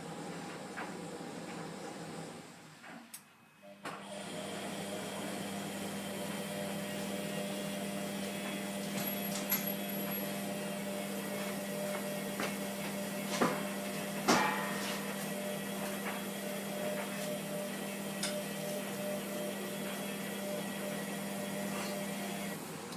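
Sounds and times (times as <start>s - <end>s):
washing machine humming: 0.0s - 22.9s.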